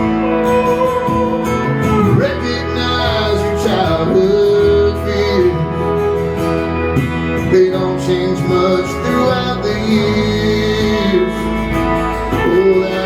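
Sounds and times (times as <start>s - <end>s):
country band playing: 0.0s - 13.0s
guitar lead line bending: 0.0s - 13.0s.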